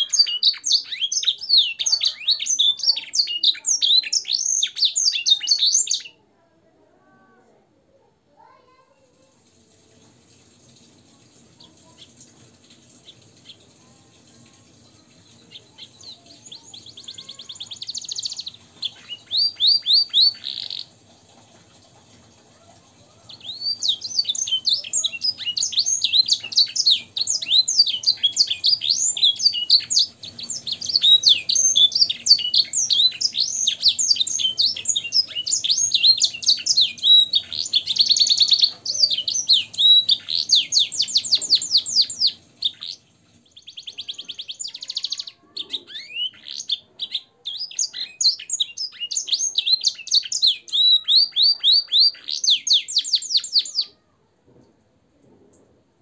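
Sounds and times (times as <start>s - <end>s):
canary singing trills: 0.0s - 6.3s, 11.6s - 22.0s, 23.0s - 54.0s.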